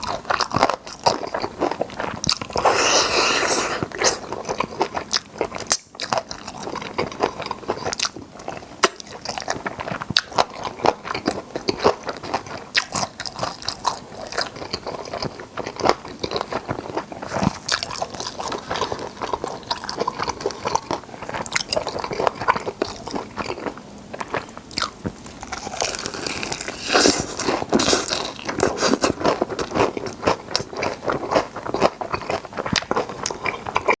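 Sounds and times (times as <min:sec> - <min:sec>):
crunchy bites of fried chicken: 0:00.0 - 0:34.0
wet chewing: 0:00.0 - 0:34.0.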